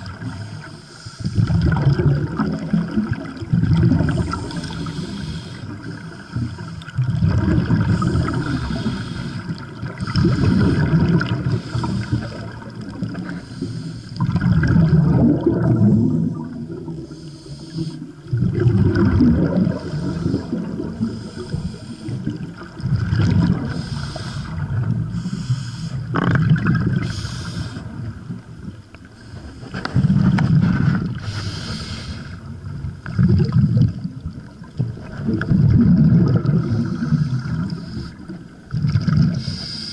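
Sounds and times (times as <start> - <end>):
underwater exhaled air bubbles: 0.0 - 39.9.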